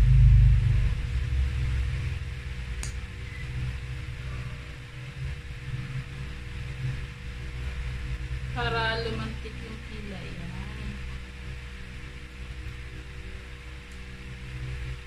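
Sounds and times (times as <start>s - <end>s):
low electrical hum: 0.0s - 15.0s
low rumbling: 0.0s - 15.0s.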